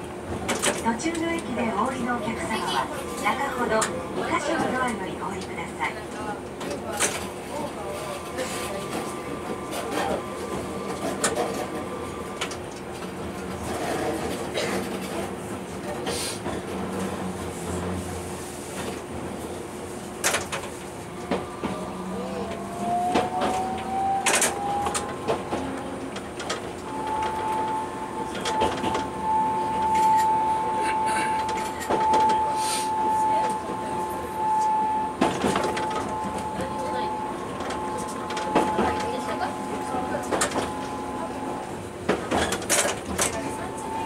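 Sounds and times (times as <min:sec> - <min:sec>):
tram hum and whine: 0:00.0 - 0:44.0.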